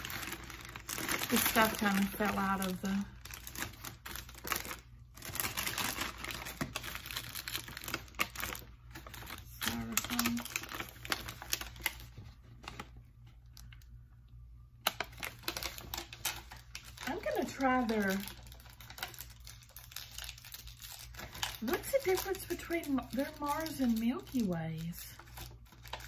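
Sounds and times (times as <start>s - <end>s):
wrapper rustling and crinkling: 0.0s - 13.9s, 14.8s - 26.0s.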